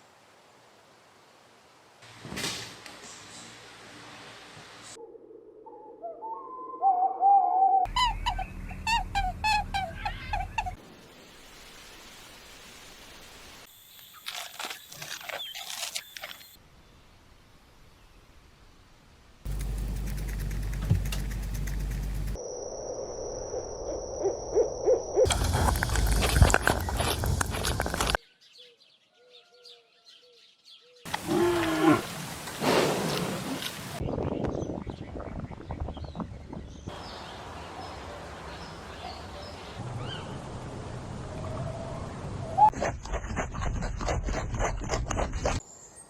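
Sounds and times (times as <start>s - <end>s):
outdoor background noise: 0.0s - 7.1s, 7.8s - 46.0s.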